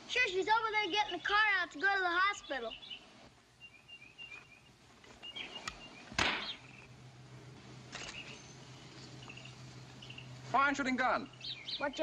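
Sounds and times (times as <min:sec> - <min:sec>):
small bird chirping: 0:00.8 - 0:07.0, 0:07.9 - 0:12.0.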